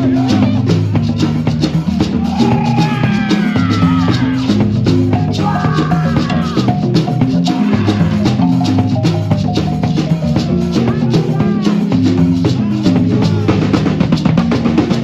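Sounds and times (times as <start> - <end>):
marimba band playing: 0.0 - 15.0
shaker: 0.0 - 15.0.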